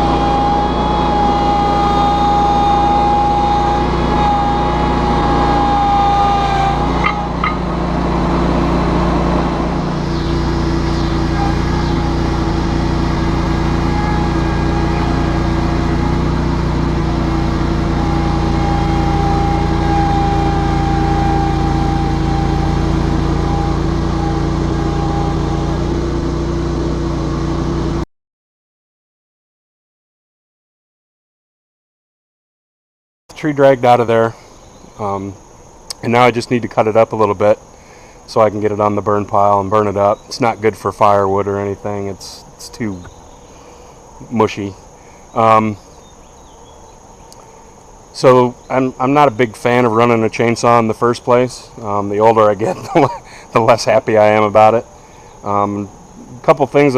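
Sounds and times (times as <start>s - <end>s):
high whine: 0.0s - 28.0s, 33.3s - 56.9s
lawn tractor engine running: 0.0s - 28.0s, 35.8s - 47.4s, 48.1s - 56.9s.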